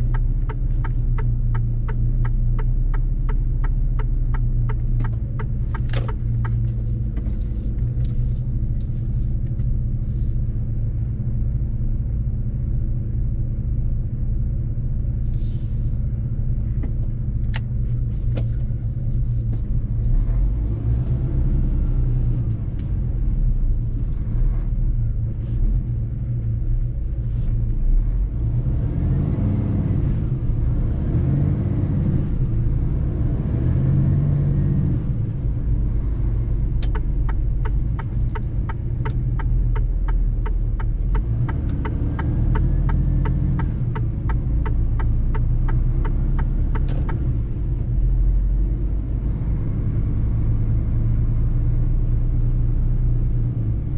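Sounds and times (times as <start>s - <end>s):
truck engine and tyres rumbling: 0.0s - 53.9s.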